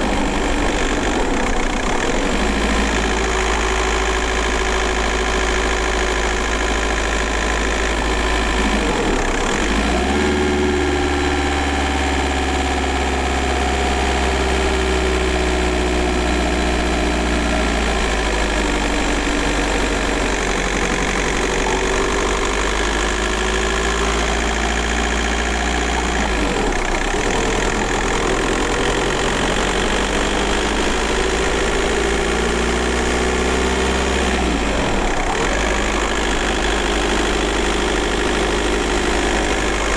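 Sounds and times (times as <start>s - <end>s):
diesel car engine pulling: 0.0s - 39.9s.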